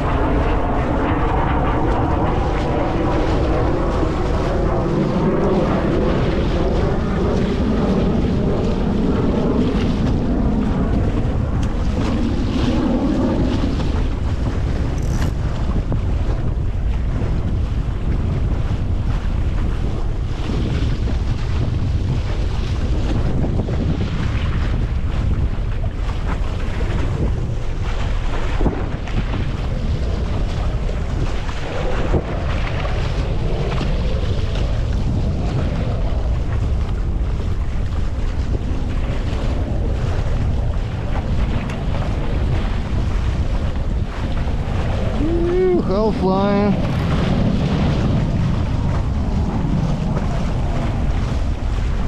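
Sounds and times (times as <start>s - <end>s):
water splashing along wooden hull: 0.0s - 52.0s
wind rumbling on microphone: 0.0s - 52.0s.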